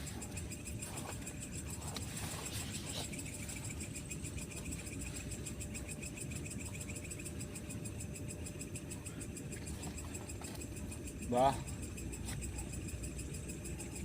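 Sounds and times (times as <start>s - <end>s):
low background hum: 0.0s - 14.0s
night insects chirping: 0.0s - 14.0s.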